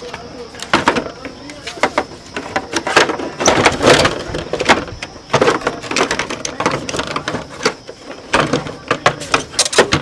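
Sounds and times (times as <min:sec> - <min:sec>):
motorbike parts clicking and rattling: 0:00.0 - 0:10.0.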